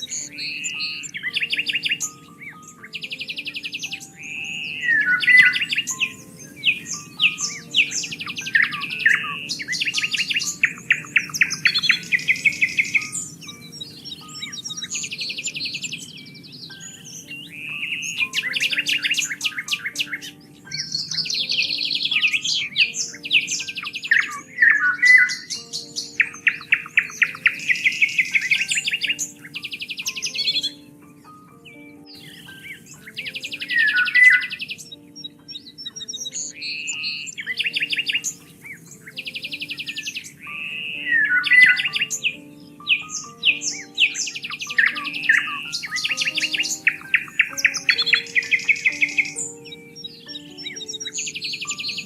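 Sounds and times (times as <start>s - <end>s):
songbirds singing and trilling: 0.0s - 52.0s.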